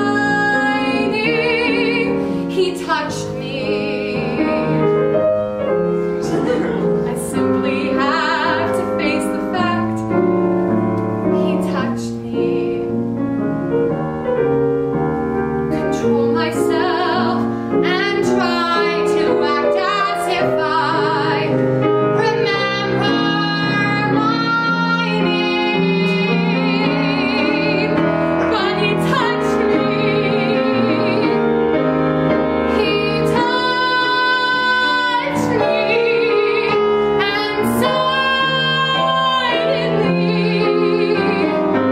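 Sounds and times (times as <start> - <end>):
woman singing with vibrato: 0.0 - 5.2, 6.2 - 10.2, 11.3 - 13.0, 15.7 - 31.6, 32.7 - 41.9
grand piano accompaniment: 0.0 - 41.9.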